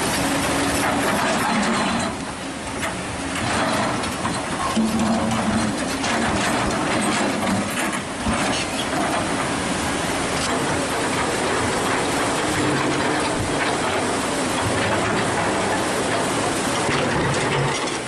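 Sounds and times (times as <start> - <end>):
diesel excavator engines humming: 0.0 - 18.0
floodwater rushing over boulders: 0.0 - 18.0.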